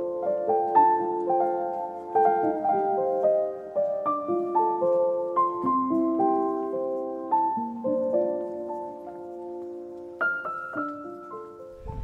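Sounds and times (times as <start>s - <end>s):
gentle piano melody: 0.0s - 12.0s.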